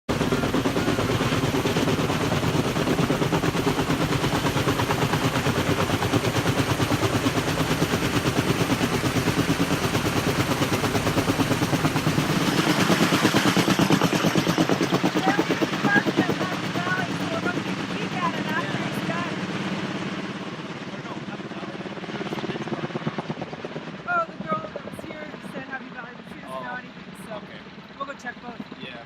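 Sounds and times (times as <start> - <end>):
helicopter rotors chopping: 0.1 - 29.0.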